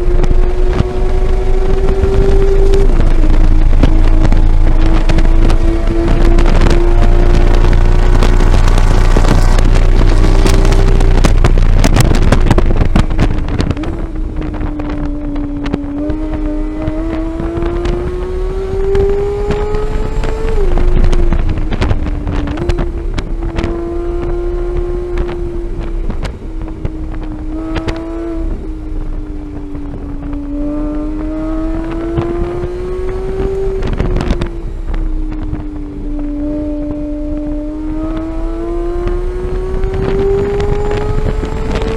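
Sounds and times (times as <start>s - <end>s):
race car engine accelerating: 0.0s - 41.9s
wind noise on microphone: 0.0s - 41.9s.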